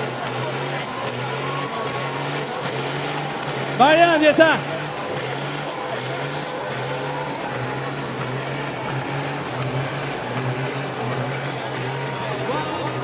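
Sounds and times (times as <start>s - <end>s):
diesel truck engines idling: 0.0s - 13.0s.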